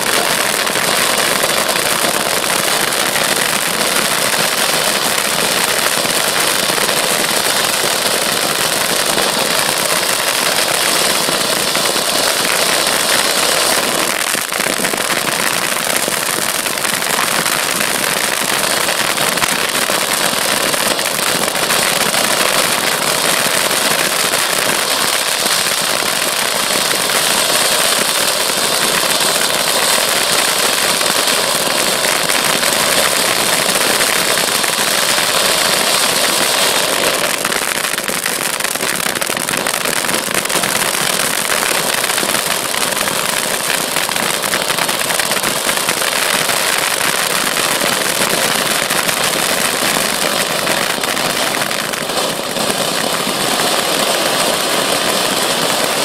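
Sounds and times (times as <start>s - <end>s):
fireworks fountains hissing: 0.0s - 56.0s.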